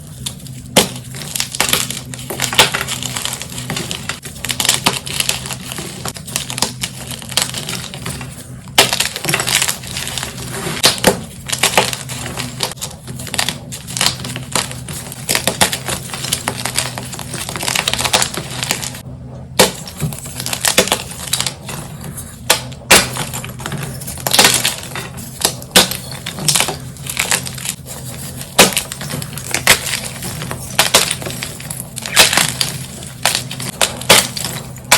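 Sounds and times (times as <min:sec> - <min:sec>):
chalk blocks crunching: 0:00.0 - 0:19.0, 0:19.6 - 0:34.9.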